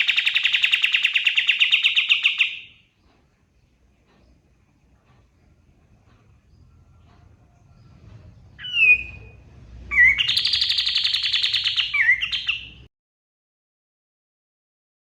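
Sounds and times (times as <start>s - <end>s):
songbird singing: 0.0s - 12.9s.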